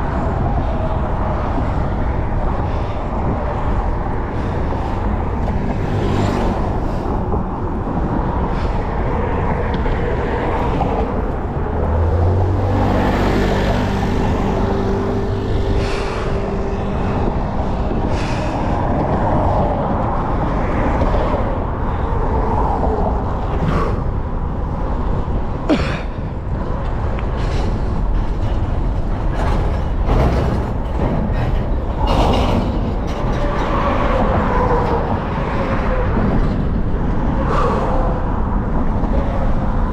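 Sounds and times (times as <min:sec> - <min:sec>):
heavy vehicle engine rumble: 0:00.0 - 0:39.9
passing vehicles: 0:00.0 - 0:39.9.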